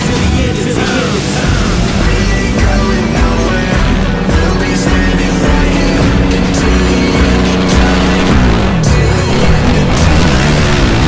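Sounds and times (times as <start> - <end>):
person singing: 0.0 - 11.0
rap-rock backing music: 0.0 - 11.0.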